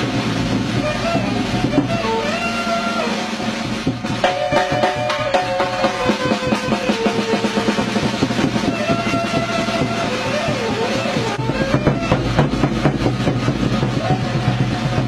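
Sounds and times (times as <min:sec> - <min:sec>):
drum kit fast beat: 0:00.0 - 0:15.0.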